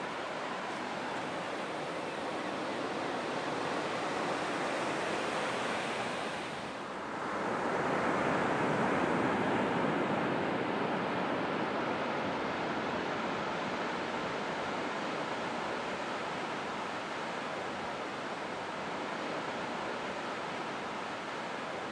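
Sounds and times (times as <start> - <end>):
ocean waves breaking on beach: 0.0 - 21.9.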